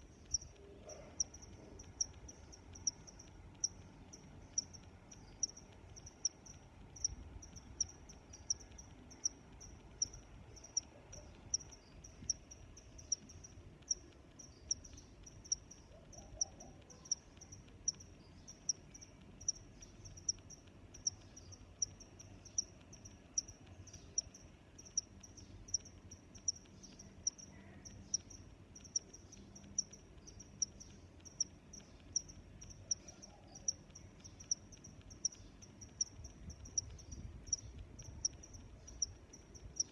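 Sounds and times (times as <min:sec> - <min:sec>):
cricket chirping: 0:00.0 - 0:39.9
faint background hiss: 0:00.0 - 0:39.9.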